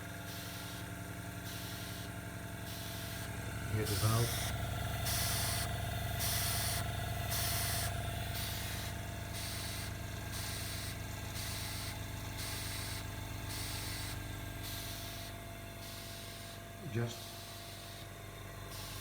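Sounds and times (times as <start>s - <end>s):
compressed air hissing through valve: 0.3s - 0.8s, 1.4s - 16.6s
steady low hum: 1.4s - 19.0s.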